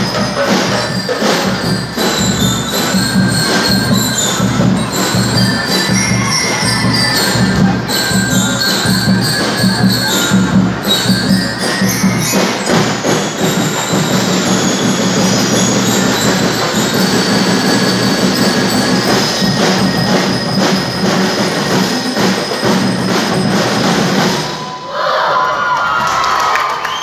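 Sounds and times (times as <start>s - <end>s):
rapid snare drumming: 0.0s - 24.6s
bell lyres ringing: 0.0s - 24.8s.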